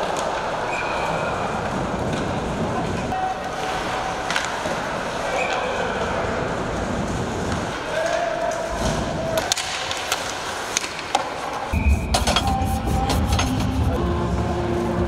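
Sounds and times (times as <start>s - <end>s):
hockey sticks and puck clacking: 0.0s - 13.8s.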